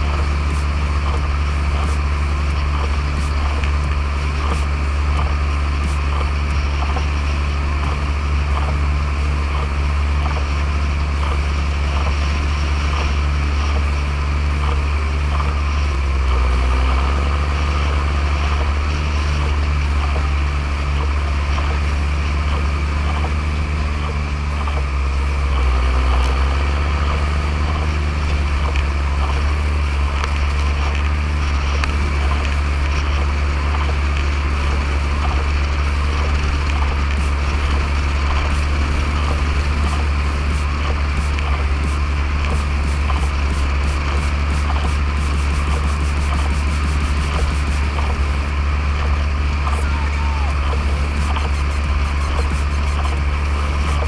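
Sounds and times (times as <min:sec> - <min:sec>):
snow plow blade pushing snow: 0:00.0 - 0:54.0
tractor diesel engine running: 0:00.0 - 0:54.0.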